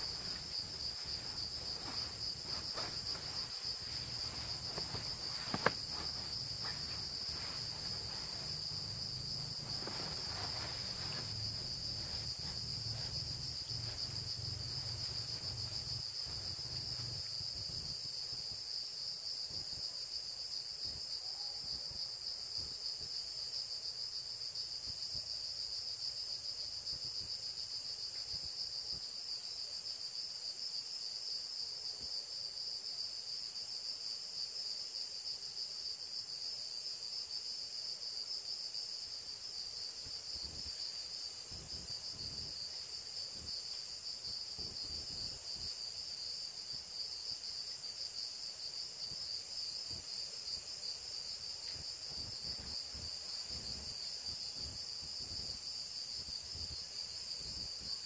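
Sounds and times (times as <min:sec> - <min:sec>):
night insects trilling: 0:00.0 - 0:58.0.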